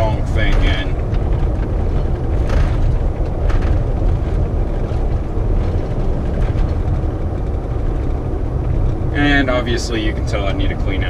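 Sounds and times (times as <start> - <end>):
road engine and wind noise: 0.0 - 11.0.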